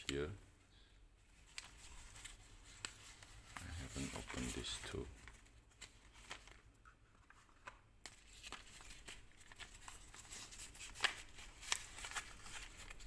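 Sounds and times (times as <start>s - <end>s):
paper packaging rustling: 1.3s - 13.0s.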